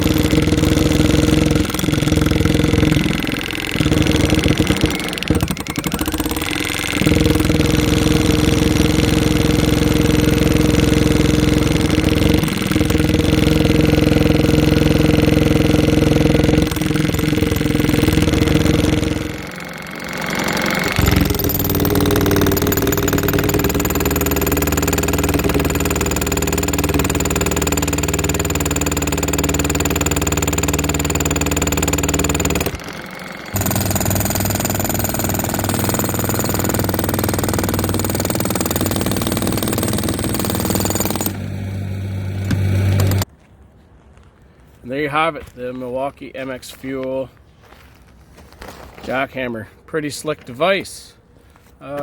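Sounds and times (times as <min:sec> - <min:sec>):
jackhammer hammering concrete: 0:00.0 - 0:43.3.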